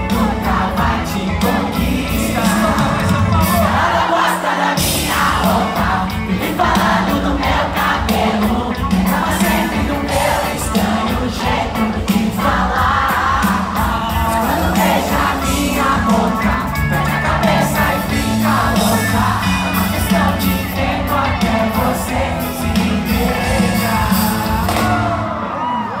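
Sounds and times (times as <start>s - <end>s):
crowd voices: 0.0s - 26.0s
live pop-rock band playing loudly: 0.0s - 26.0s
person singing: 0.0s - 26.0s.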